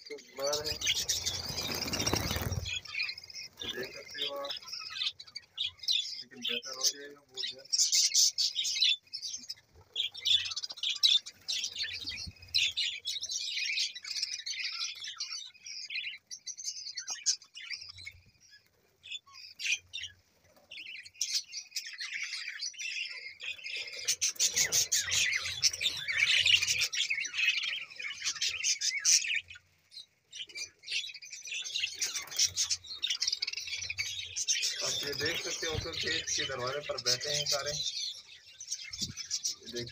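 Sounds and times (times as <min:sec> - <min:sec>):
budgerigars chattering: 0:00.0 - 0:29.6, 0:30.3 - 0:39.9.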